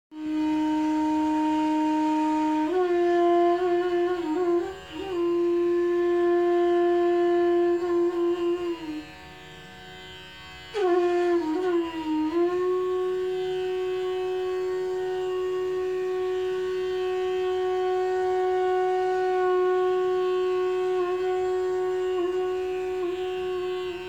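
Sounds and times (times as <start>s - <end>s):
bamboo flute playing solo: 0.1s - 9.1s, 10.7s - 24.0s.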